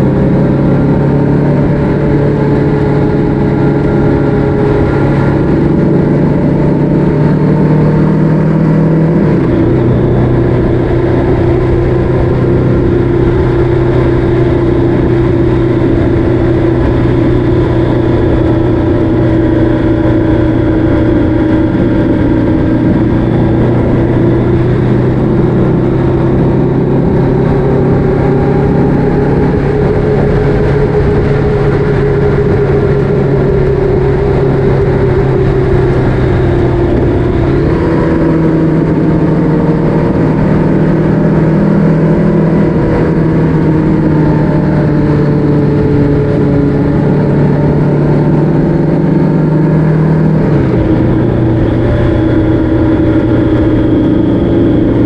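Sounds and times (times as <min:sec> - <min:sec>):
motorcycle engine running: 0:00.0 - 0:55.0
rushing noise: 0:00.0 - 0:55.0.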